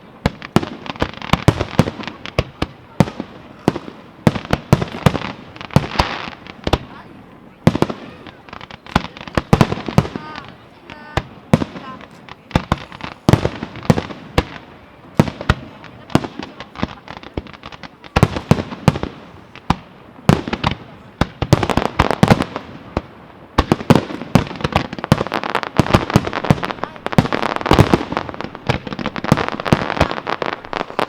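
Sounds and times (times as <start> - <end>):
fireworks bursts and bangs: 0.0 - 31.0.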